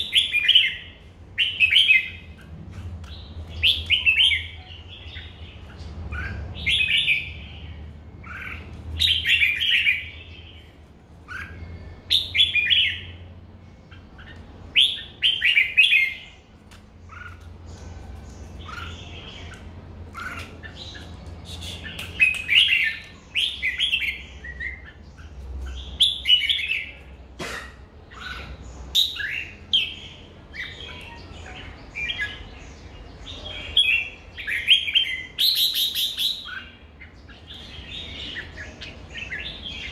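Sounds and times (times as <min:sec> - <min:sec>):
bird singing warbling phrases: 0:00.0 - 0:27.3, 0:27.9 - 0:39.9.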